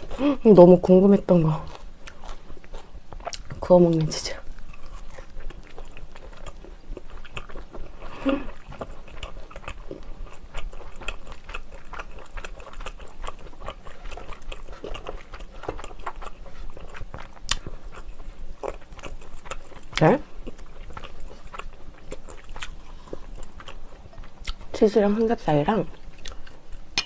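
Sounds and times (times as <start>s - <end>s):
person chewing food: 0.0s - 0.5s, 1.6s - 24.8s, 25.9s - 27.0s.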